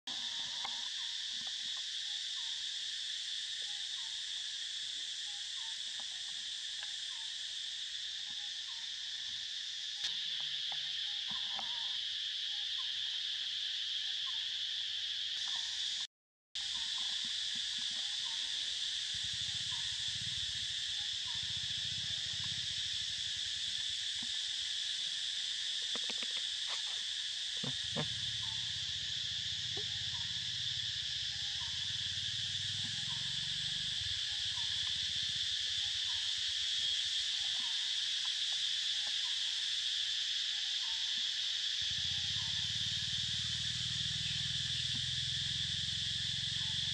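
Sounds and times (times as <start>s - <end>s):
insect chorus drone: 0.1s - 46.9s.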